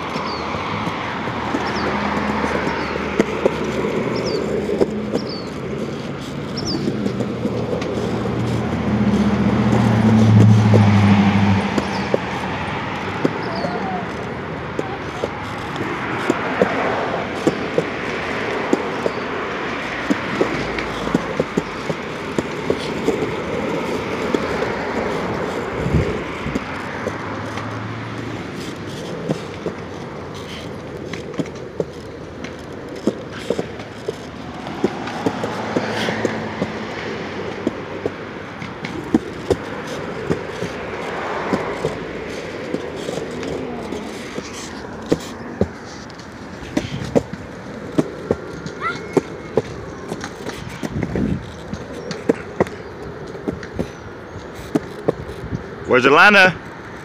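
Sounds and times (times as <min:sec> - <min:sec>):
kick scooter rolling on concrete: 0:00.0 - 0:57.0
street traffic passing: 0:00.0 - 0:57.0.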